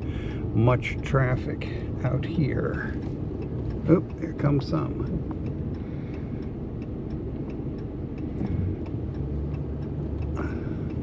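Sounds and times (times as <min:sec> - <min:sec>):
truck engine and tyre rumble: 0:00.0 - 0:11.0
turn signal ticking: 0:00.0 - 0:11.0.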